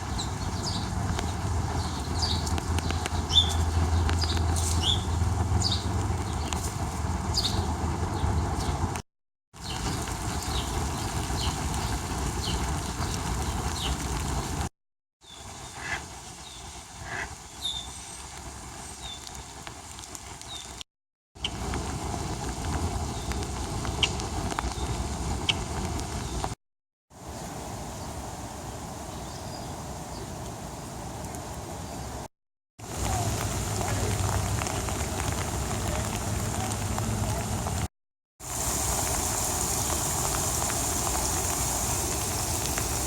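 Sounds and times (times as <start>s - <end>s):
rain with noisy rumble: 0.0s - 9.0s, 9.6s - 20.8s, 21.4s - 26.6s, 27.2s - 43.0s.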